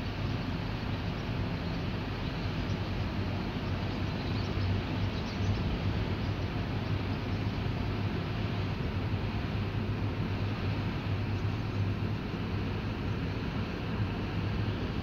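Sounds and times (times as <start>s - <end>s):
ship machinery hum: 0.0s - 15.0s.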